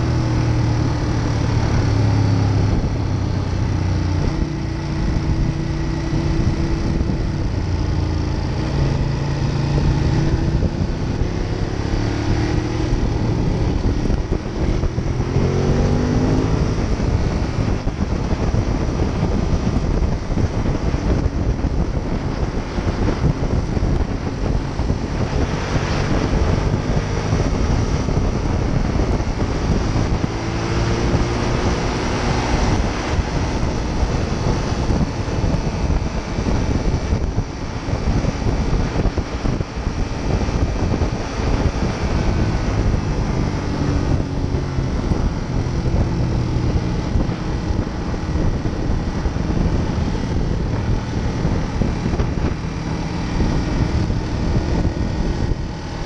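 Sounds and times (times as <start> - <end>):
motorcycle engine accelerating: 0.0 - 56.0
wind rush and road noise: 0.0 - 56.0.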